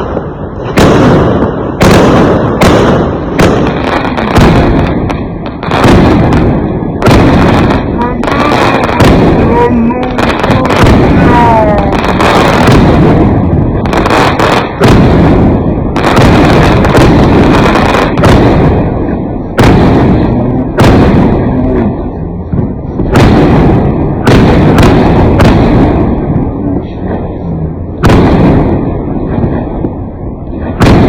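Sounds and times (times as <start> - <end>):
firecrackers crackling: 0.0 - 31.0
fireworks bangs: 0.0 - 31.0.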